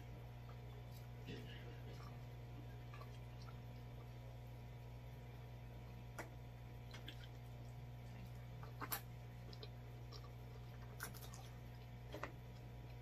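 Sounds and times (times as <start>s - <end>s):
steady low hum: 0.0s - 13.0s
wet squishing of food: 0.5s - 4.7s, 6.2s - 13.0s.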